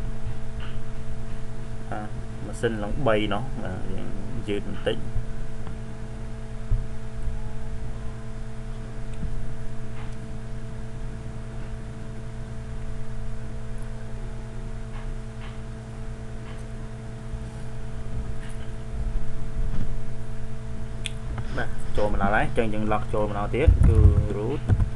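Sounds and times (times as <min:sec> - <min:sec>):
electrical hum: 0:00.0 - 0:24.9
low rumbling background noise: 0:00.0 - 0:24.9.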